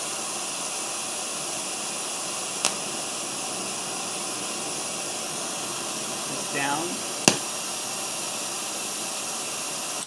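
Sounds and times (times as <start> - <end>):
pink noise hissing from speaker: 0.0 - 10.0.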